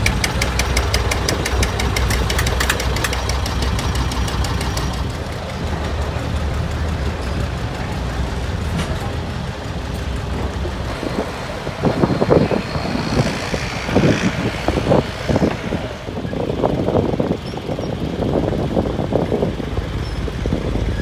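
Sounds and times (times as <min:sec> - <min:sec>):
construction machine engine running: 0:00.0 - 0:21.0.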